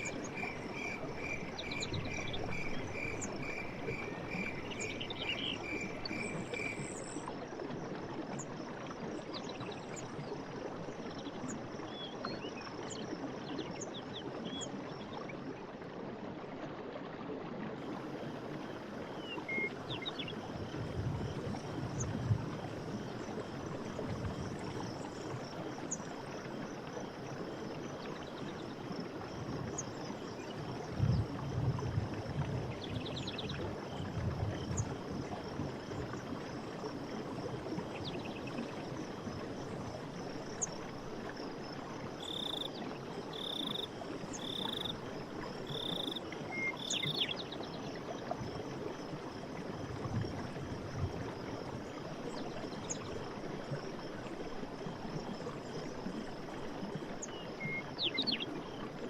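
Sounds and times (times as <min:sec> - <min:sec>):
insects and frogs chirping: 0:00.0 - 0:16.1, 0:17.8 - 0:59.0.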